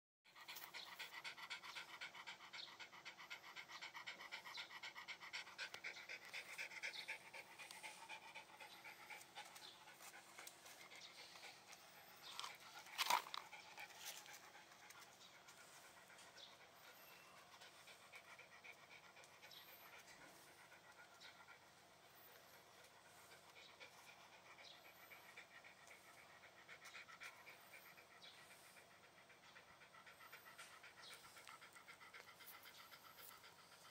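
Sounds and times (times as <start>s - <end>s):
dog panting: 0.3s - 33.9s.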